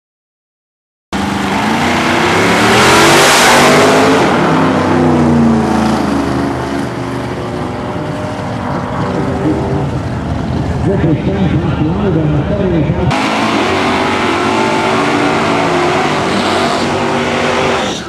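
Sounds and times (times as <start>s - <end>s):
race car engine at full throttle: 1.2s - 18.0s.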